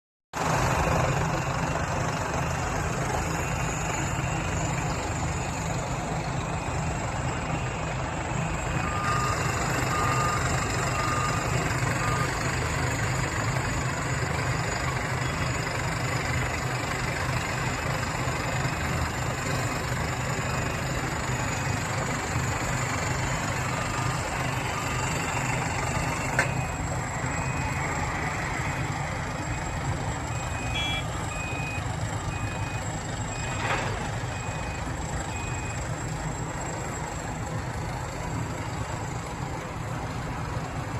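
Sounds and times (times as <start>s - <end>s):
diesel engine rumbling: 0.3s - 40.9s
warning alarm beeps: 2.4s - 37.3s.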